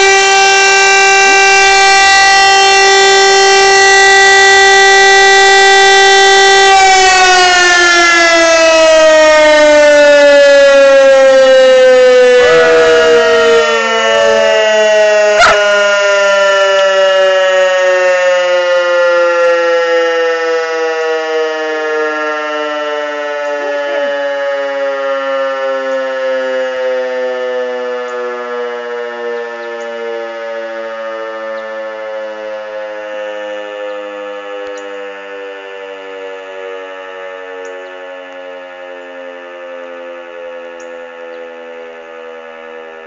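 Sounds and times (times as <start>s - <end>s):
motor siren winding down: 0.0s - 43.0s.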